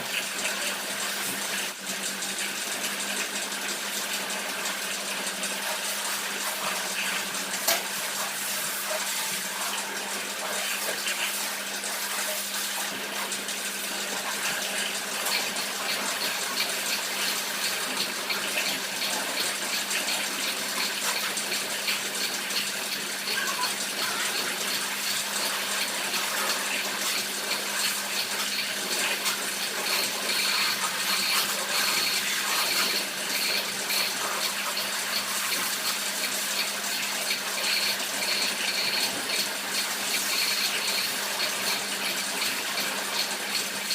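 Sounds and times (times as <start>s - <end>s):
water pump humming: 0.0s - 43.9s
water spraying: 3.2s - 43.9s.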